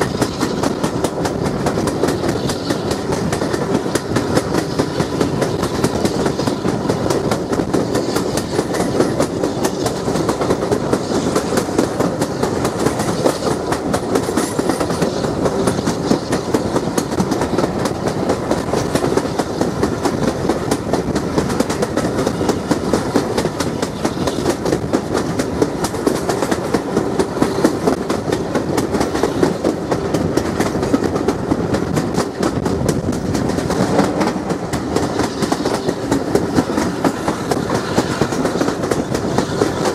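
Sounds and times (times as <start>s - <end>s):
train wind and rolling noise: 0.0s - 39.9s
wheels clicking over rail joints: 0.0s - 39.9s.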